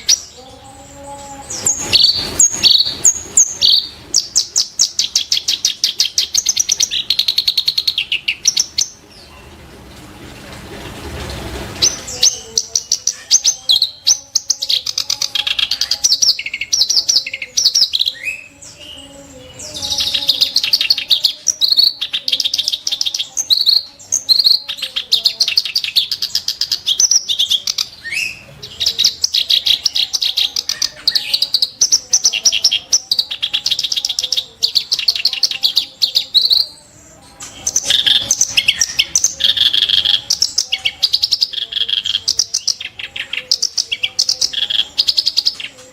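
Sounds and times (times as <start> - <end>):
bird singing chattering song: 0.0 - 9.3, 11.8 - 45.9.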